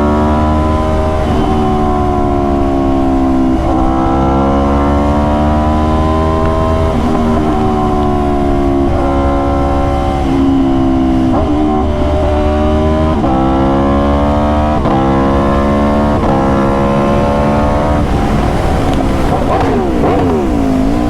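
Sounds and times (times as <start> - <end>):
motorcycle engine changing gear: 0.0 - 21.0.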